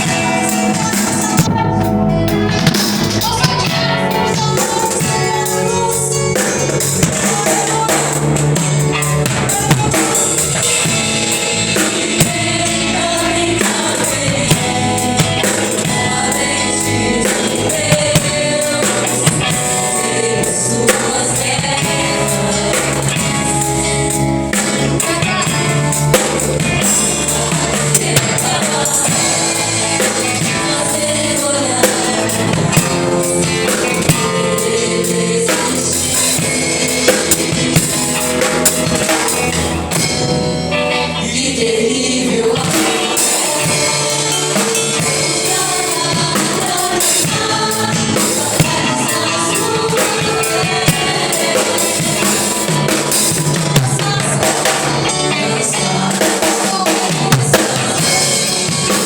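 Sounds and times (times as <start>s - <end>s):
drum kit: 0.0s - 59.0s
gospel singing: 0.0s - 59.0s.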